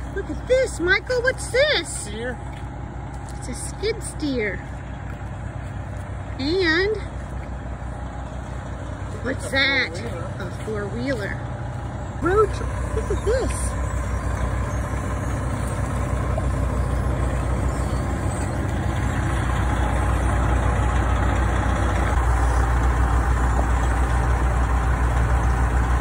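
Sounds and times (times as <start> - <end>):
road-paving machinery droning: 0.0 - 26.0.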